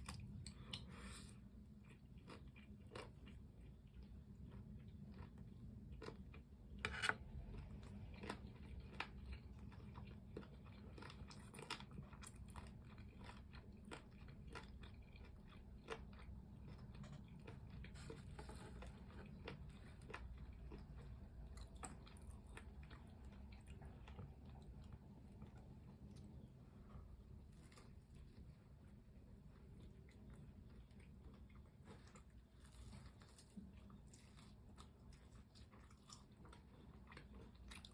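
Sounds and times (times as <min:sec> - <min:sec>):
chewing crispy fried chicken: 0:00.0 - 0:37.9.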